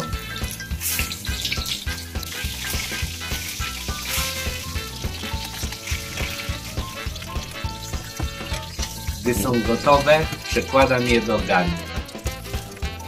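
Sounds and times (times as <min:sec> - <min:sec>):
background music with a beat: 0:00.0 - 0:13.0
patties sizzling in a frying pan: 0:00.0 - 0:13.0.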